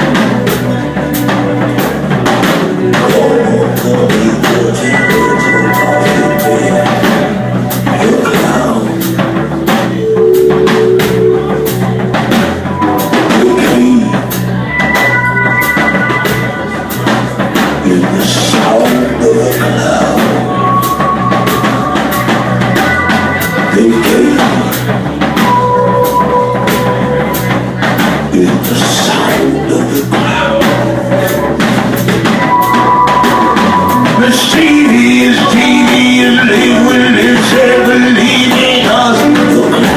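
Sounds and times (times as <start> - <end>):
drum kit steady beat: 0.0 - 39.9
long held notes: 0.8 - 17.8, 18.9 - 28.3, 30.5 - 38.8.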